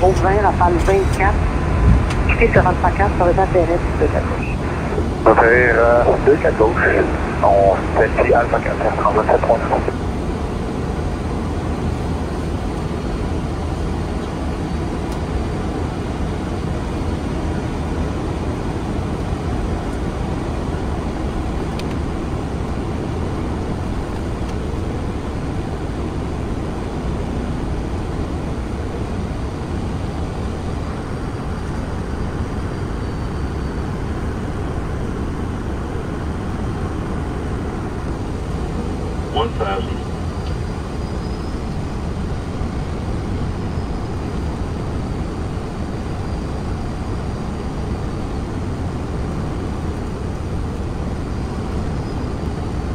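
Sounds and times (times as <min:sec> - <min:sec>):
airflow and jet engines rushing: 0:00.0 - 0:52.9.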